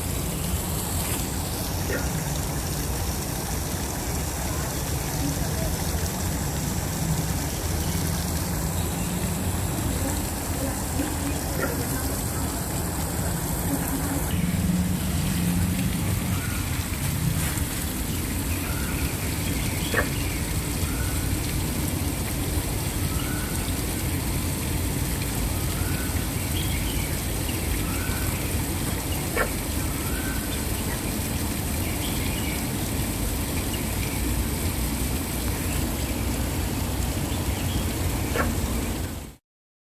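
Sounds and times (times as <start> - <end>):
waterfall rushing: 0.0 - 39.4.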